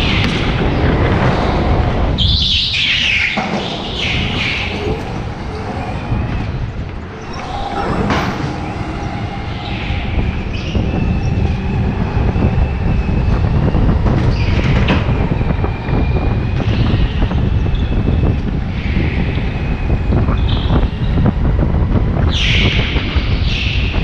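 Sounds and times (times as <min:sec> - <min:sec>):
kart engine rumble: 0:00.0 - 0:24.0.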